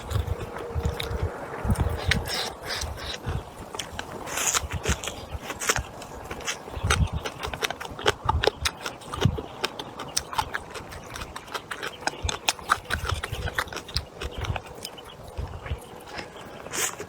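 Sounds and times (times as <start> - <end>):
wet chewing and lip smacking: 0.0 - 17.0.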